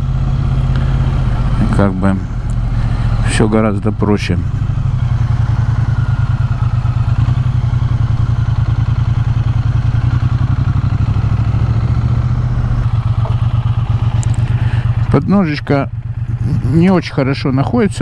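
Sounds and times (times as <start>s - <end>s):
motorcycle engine running steadily: 0.0s - 18.0s.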